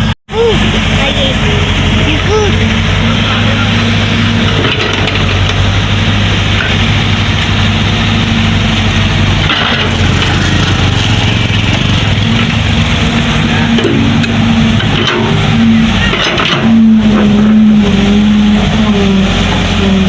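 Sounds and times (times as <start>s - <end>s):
backhoe diesel engine running: 0.0s - 20.0s.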